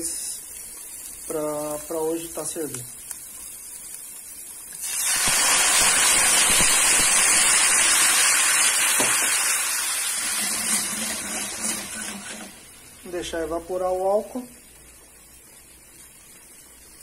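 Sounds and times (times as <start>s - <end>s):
wine sizzling in a hot pan: 0.0s - 17.0s.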